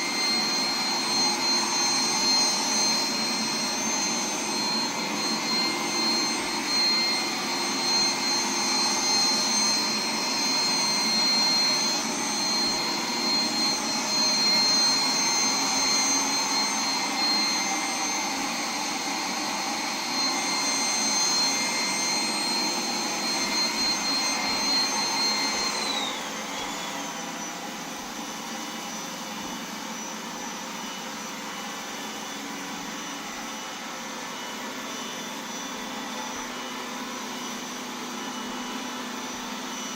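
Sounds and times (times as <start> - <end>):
robot vacuum fan whine: 0.0 - 39.9.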